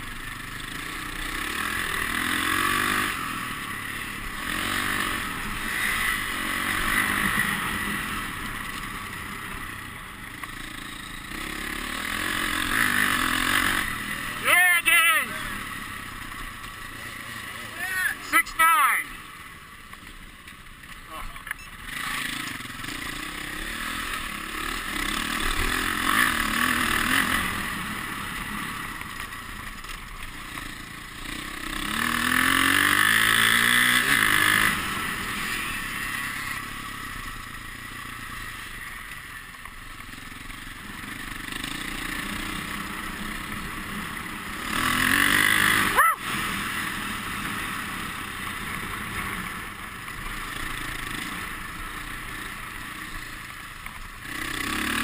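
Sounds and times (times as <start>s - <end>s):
dirt bike engine revving: 0.0s - 19.6s, 21.2s - 39.2s, 39.8s - 55.0s.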